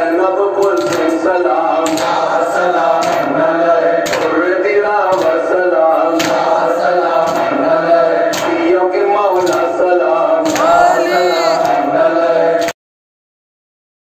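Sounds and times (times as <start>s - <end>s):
men chanting: 0.8s - 12.8s.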